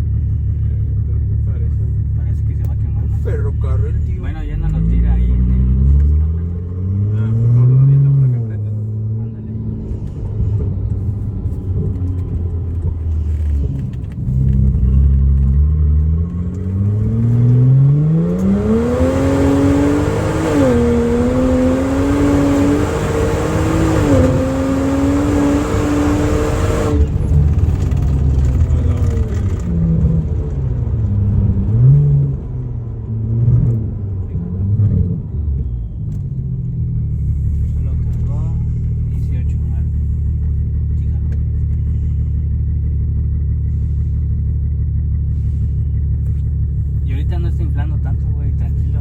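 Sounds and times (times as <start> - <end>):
car engine accelerating with misfire: 2.4 - 49.0.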